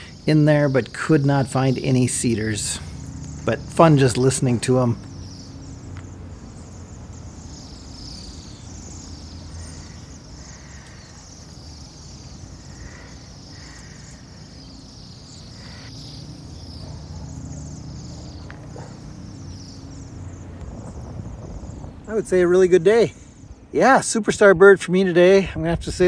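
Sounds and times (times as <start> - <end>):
flock of birds trilling: 0.0 - 26.0
low steady rumble: 1.7 - 23.8.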